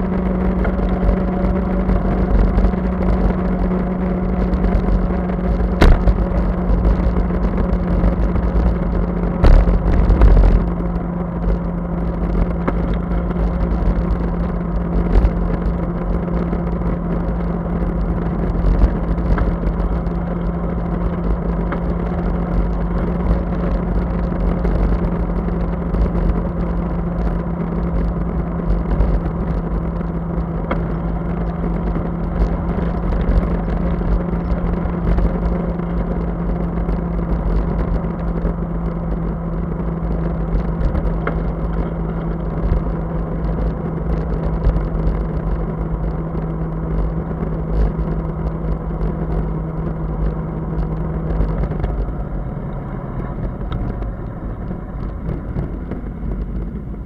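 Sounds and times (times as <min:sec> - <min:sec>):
steady low hum: 0:00.0 - 0:57.0
tyres on wet asphalt: 0:00.0 - 0:57.0
wind rush on microphone: 0:00.0 - 0:57.0.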